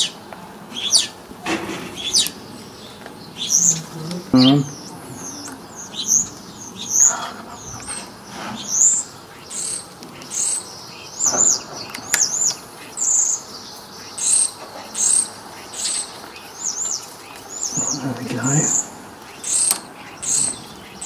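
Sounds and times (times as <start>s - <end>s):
small bird chirping: 0.0s - 1.2s, 1.8s - 21.0s.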